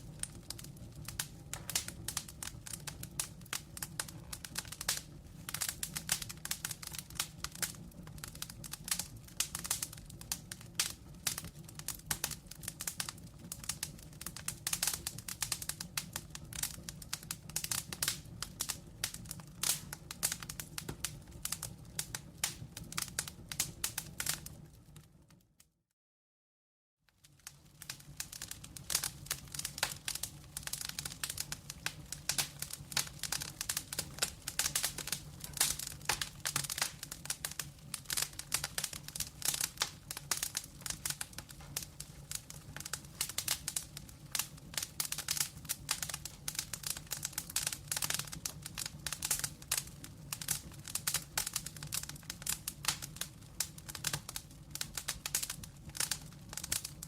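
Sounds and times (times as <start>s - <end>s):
wood fire crackling: 0.0s - 25.5s, 27.1s - 57.0s.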